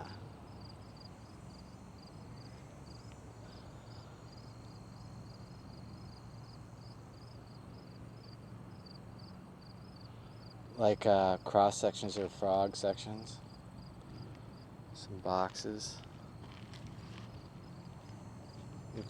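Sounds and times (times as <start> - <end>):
insect chirping: 0.0 - 19.0
low steady hum: 0.0 - 19.0.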